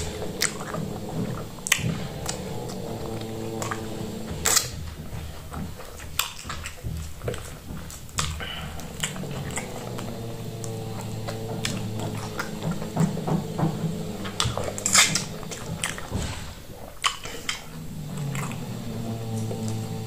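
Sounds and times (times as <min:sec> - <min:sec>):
low hum: 0:00.0 - 0:05.8, 0:08.4 - 0:16.6, 0:17.6 - 0:20.0
wet chewing and lip-smacking: 0:00.0 - 0:20.0.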